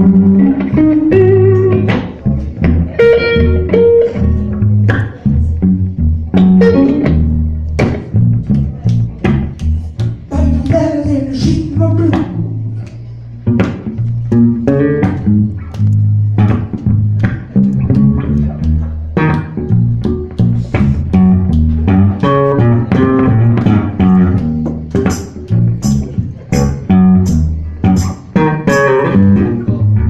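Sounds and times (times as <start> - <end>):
bass guitar line: 0.0 - 30.0
plucked blues guitar: 0.0 - 30.0.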